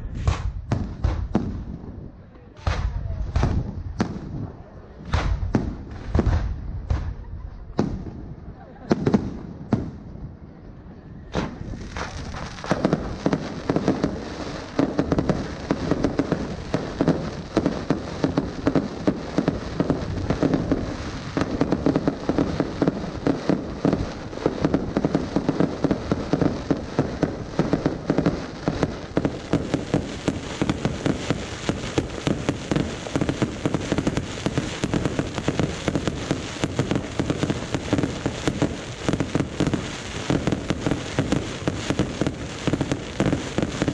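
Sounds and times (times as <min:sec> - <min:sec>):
fireworks crackling bangs: 0:00.0 - 0:10.1, 0:11.3 - 0:43.9.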